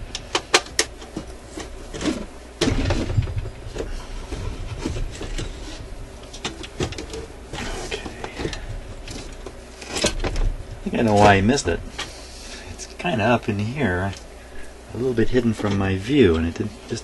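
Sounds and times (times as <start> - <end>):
thump and rumble of handling: 0.0 - 12.2, 12.8 - 16.8.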